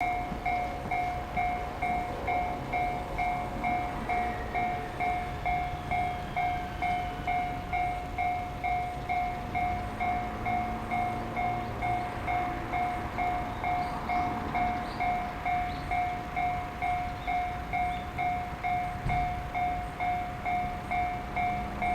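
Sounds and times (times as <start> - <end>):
level-crossing warning bell: 0.0 - 21.9
train running past: 0.0 - 21.9.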